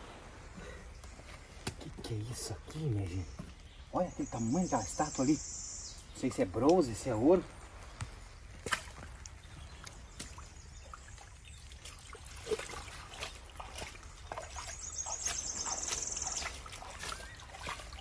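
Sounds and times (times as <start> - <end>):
muddy water trickling and splashing: 0.0 - 18.0.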